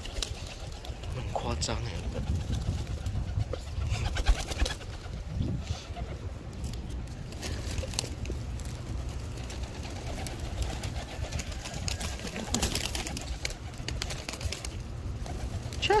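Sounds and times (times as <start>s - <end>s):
pigeons cooing: 0.0s - 6.5s, 7.1s - 16.0s
steady low rumble: 0.0s - 16.0s.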